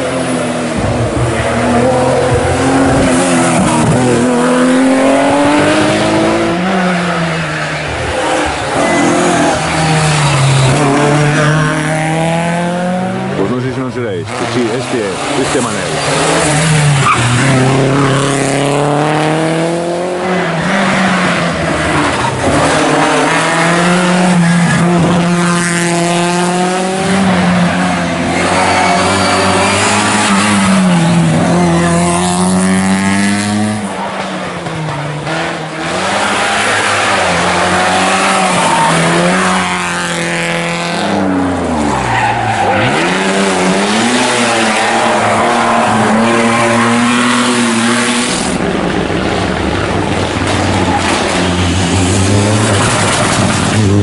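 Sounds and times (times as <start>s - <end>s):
rally car engines revving hard: 0.0s - 54.0s.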